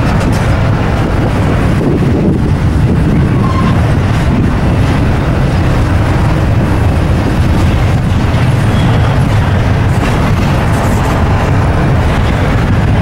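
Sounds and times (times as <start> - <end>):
freight train rumbling on rails: 0.0 - 13.0
wind buffeting microphone: 0.0 - 13.0.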